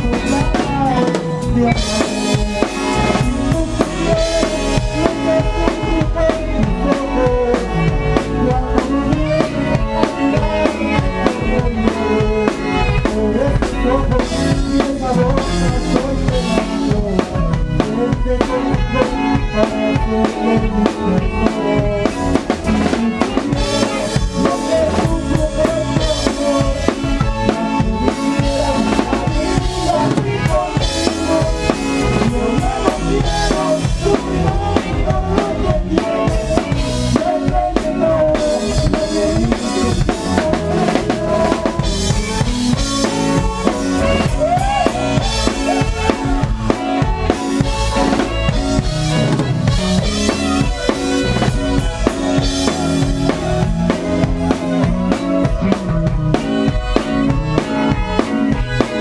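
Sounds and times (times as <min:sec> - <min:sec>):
live band playing: 0:00.0 - 0:59.0.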